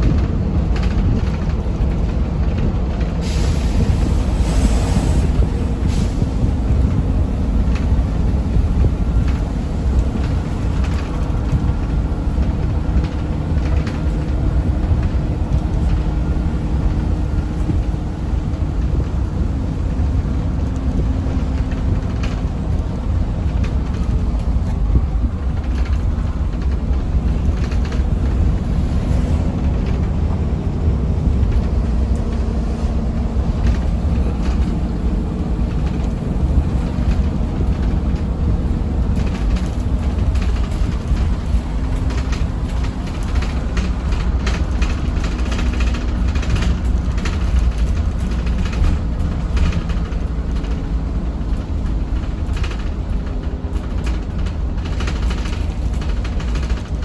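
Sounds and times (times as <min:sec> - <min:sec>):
light rattles and clicks: 0:00.0 - 0:04.0, 0:06.2 - 0:57.0
bus engine and road rumble: 0:00.0 - 0:57.0.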